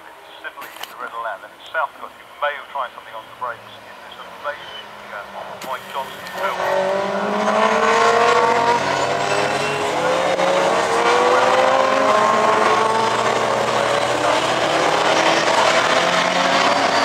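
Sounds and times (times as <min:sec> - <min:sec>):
racing cars passing at full throttle: 0:03.0 - 0:17.0.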